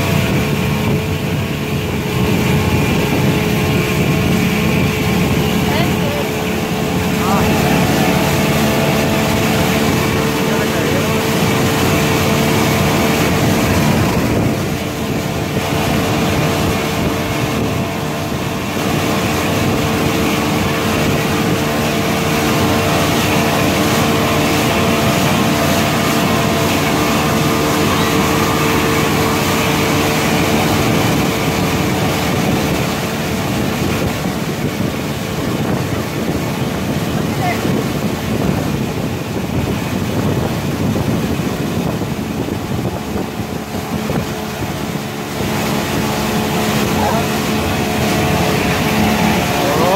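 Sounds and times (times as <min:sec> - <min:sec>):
outboard motor running: 0:00.0 - 0:49.9
wind and water rushing: 0:00.0 - 0:49.9.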